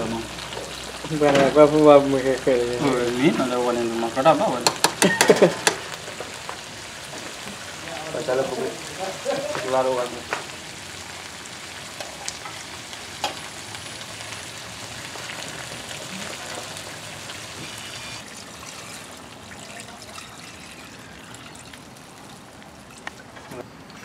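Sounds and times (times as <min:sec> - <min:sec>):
meat sizzling in a wok: 0:00.0 - 0:19.5, 0:20.2 - 0:22.9.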